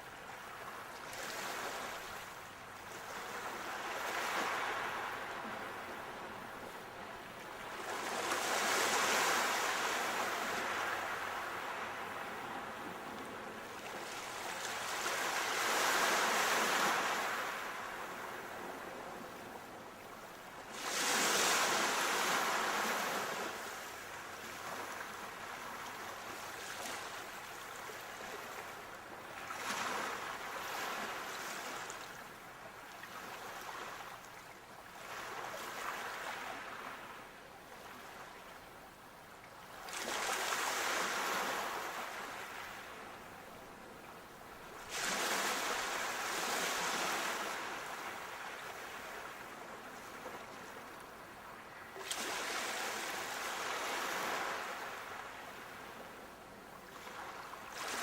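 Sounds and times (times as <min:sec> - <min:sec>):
sea waves breaking on shore: 0:00.0 - 0:38.7, 0:39.4 - 0:58.0.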